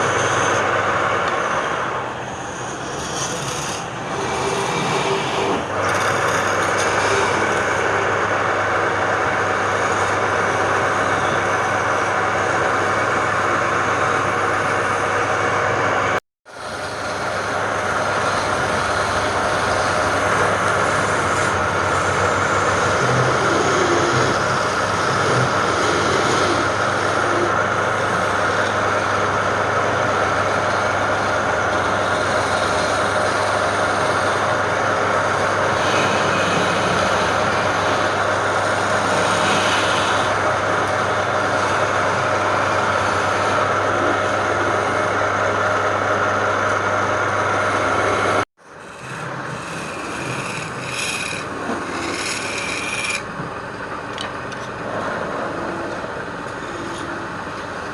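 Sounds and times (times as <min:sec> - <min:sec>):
wood lathe humming and whining: 0:00.0 - 0:57.9.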